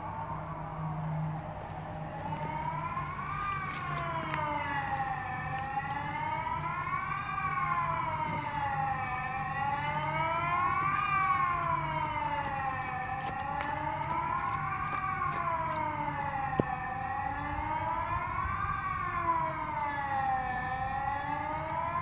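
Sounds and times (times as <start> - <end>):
wailing siren: 0.0 - 22.0.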